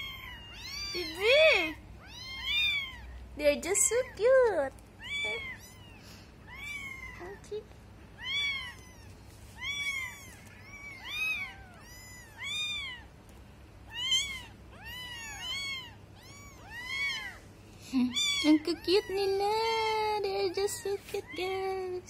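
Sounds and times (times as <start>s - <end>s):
kittens mewing: 0.0s - 13.2s, 13.8s - 21.7s.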